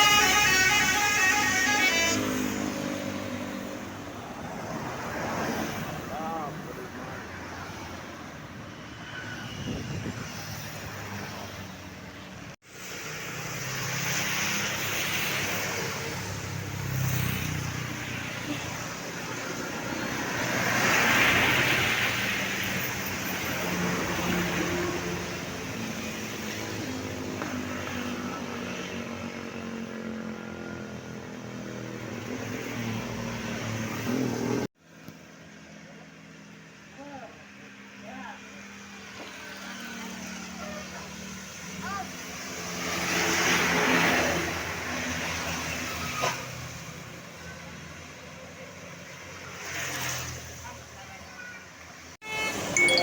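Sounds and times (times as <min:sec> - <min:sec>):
roadside traffic: 0:00.0 - 0:53.0
vehicle engines passing: 0:00.9 - 0:53.0.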